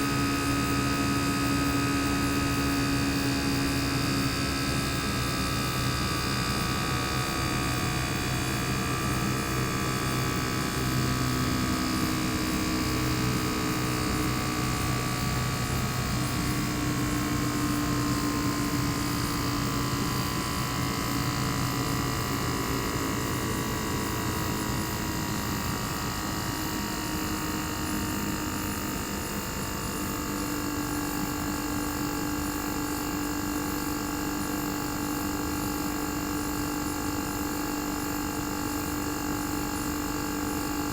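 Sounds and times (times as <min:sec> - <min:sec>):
compressor humming with whine: 0:00.0 - 0:40.9.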